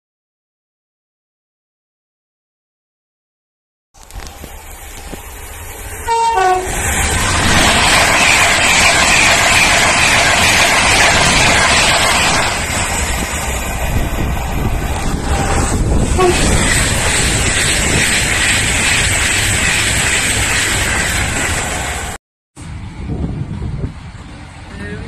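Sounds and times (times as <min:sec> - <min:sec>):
train wheels on track: 0:04.0 - 0:25.0.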